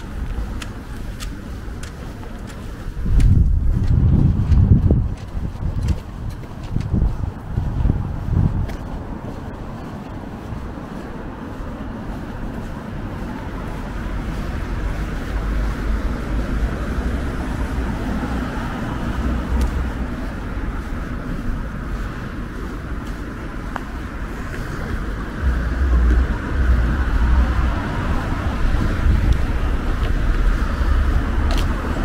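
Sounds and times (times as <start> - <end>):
distant road traffic hum: 0.0 - 32.0
wind buffeting microphone: 0.0 - 32.0.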